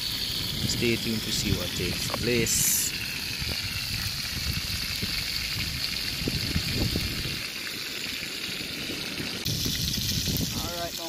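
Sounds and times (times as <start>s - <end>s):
lobsters sizzling in oil: 0.0s - 11.0s.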